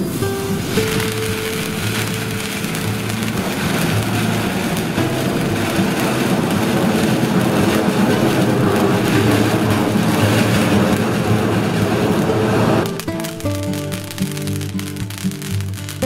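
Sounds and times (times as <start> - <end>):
firework fountain spraying sparks: 0.0 - 16.0.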